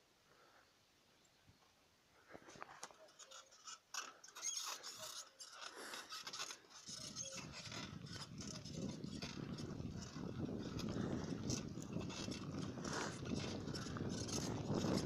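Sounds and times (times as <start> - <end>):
bicycle parts clicking and rattling: 2.8 - 15.0.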